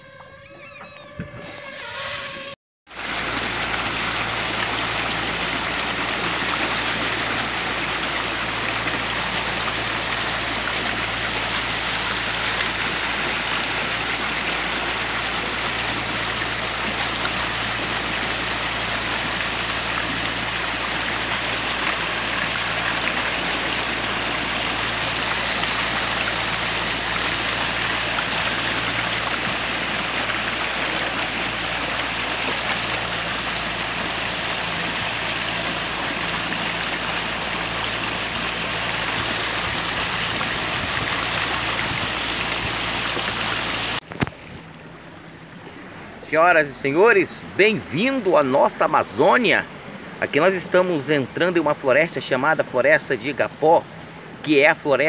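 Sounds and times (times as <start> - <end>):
motorboat engine hum: 0.0 - 46.2
water and air rushing: 1.3 - 55.0.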